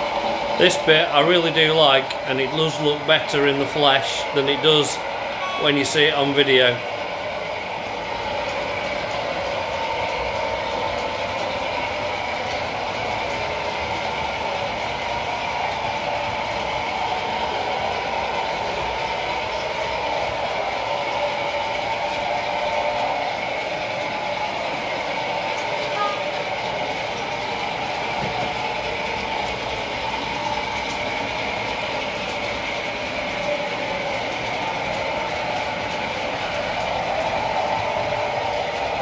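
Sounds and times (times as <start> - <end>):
model trains running on track: 0.0 - 39.0.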